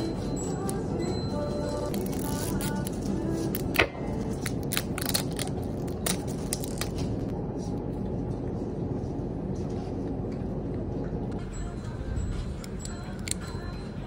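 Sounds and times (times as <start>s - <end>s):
shop background hum: 0.0s - 14.0s.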